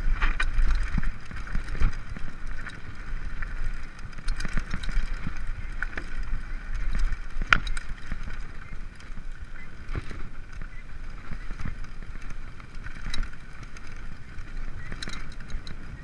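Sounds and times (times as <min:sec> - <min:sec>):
bike rattling and clicking: 0:00.0 - 0:16.0
wind rumbling on microphone: 0:00.0 - 0:16.0.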